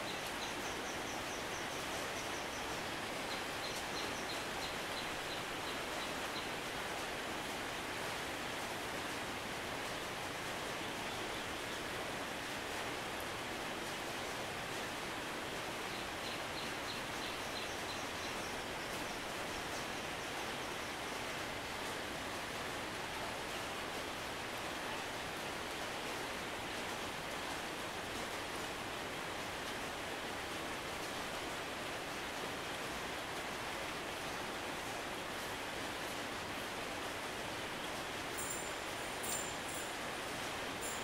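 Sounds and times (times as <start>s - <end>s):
rain falling: 0.0s - 41.0s.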